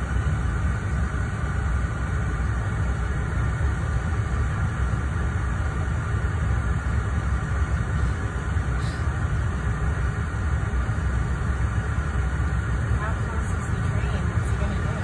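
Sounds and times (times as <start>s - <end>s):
engine rumble: 0.0s - 15.0s
road noise: 0.0s - 15.0s.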